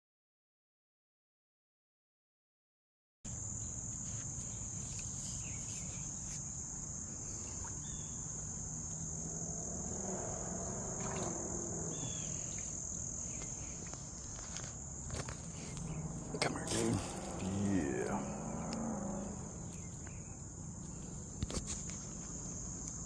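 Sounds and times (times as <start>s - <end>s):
high-pitched insect chorus: 3.3s - 23.0s.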